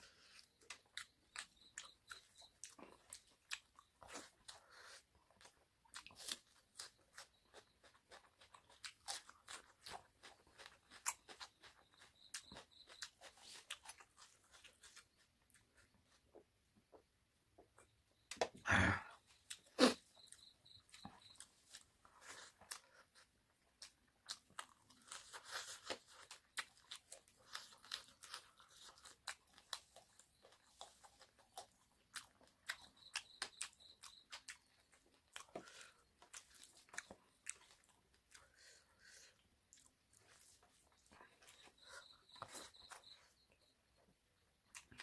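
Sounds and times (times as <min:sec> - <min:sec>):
wet chewing and crunching: 0:00.0 - 0:17.0, 0:17.8 - 0:45.0.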